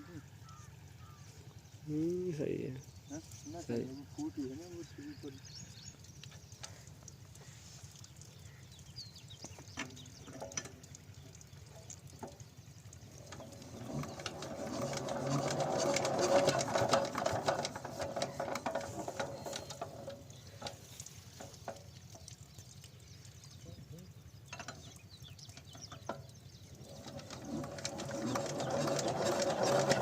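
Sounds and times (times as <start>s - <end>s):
diesel pump engine clattering: 4.4s - 30.0s.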